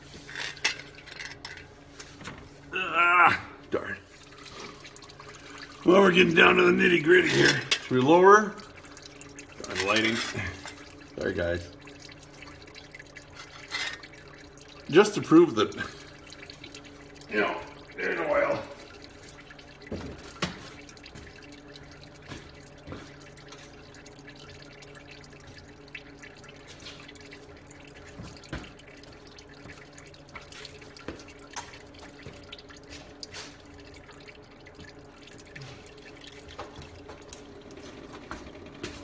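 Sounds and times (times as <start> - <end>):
oil dripping into a pan: 4.1 - 39.0.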